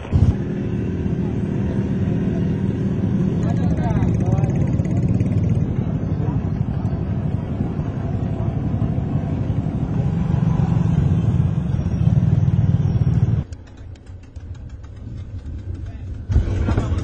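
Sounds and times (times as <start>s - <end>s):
motorcycle and car engines rumbling: 0.0s - 17.0s.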